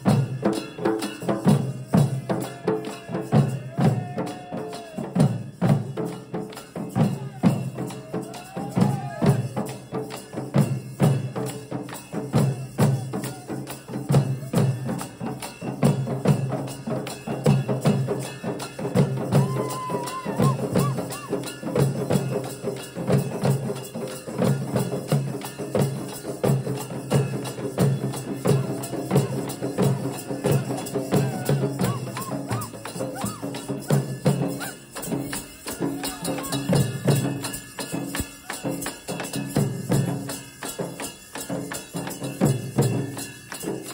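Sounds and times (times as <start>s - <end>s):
barrel drums beating: 0.0s - 43.9s.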